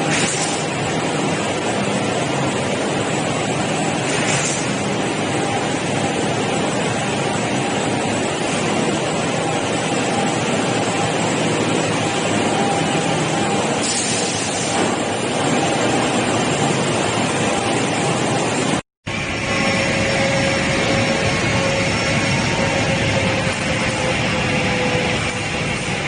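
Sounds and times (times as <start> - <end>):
woodworking machinery hum and whine: 0.0 - 26.0.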